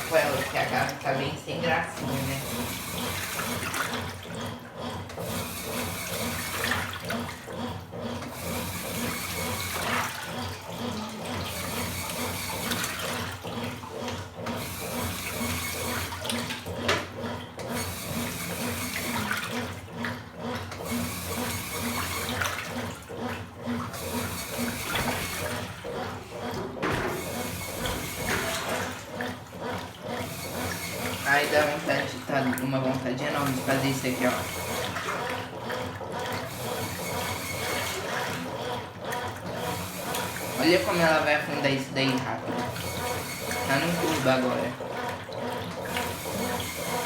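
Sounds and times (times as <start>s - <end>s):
washing machine water sloshing: 0.0s - 47.0s.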